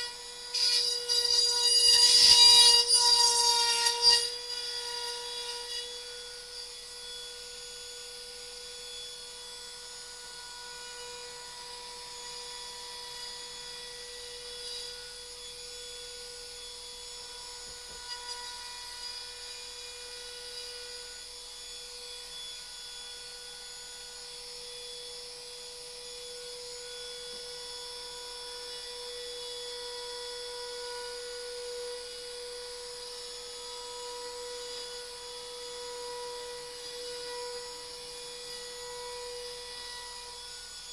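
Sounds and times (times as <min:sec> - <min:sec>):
router motor whine: 0:00.0 - 0:40.9.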